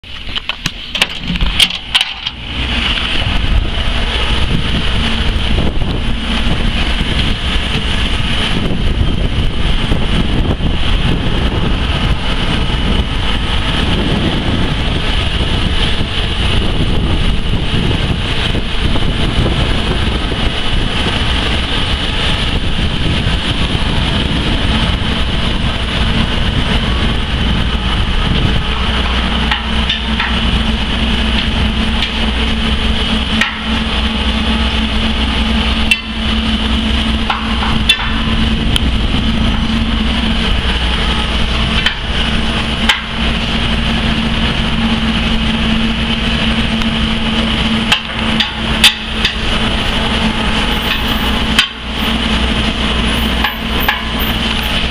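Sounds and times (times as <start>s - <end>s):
city street traffic: 0.0s - 54.9s.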